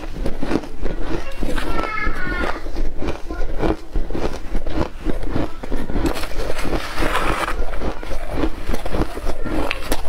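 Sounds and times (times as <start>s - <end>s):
ice being chewed: 0.0s - 10.0s
metal spoon scraping ice: 0.0s - 10.0s.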